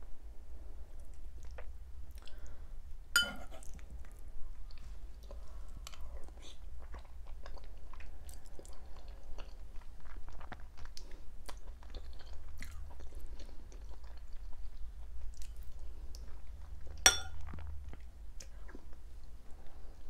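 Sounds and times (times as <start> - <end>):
close chewing and eating: 0.9 - 2.6, 3.4 - 20.0.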